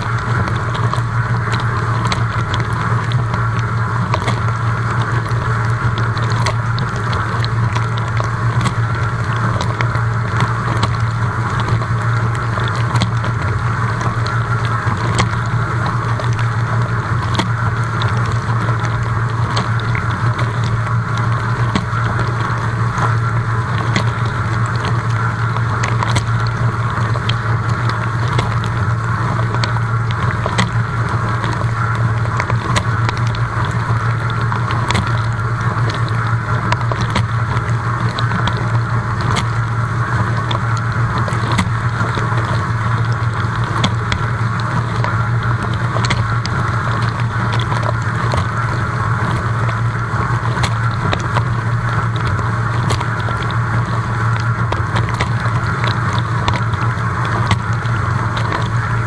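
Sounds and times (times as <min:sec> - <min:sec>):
dishwasher pump hum: 0:00.0 - 0:59.0.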